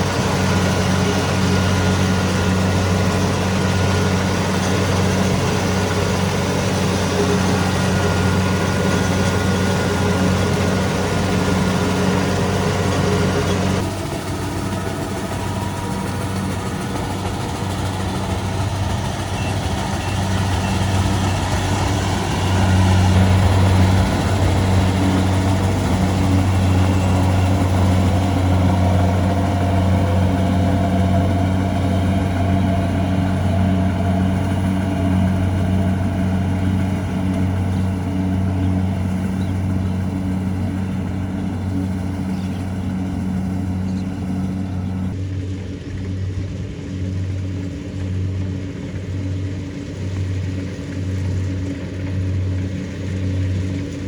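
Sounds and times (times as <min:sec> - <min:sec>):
combine harvester diesel engine: 0:00.0 - 0:54.0.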